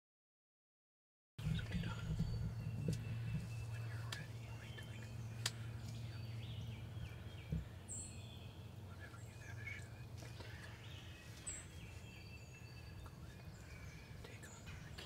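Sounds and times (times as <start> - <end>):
faint songbirds chirping: 1.4 - 15.0.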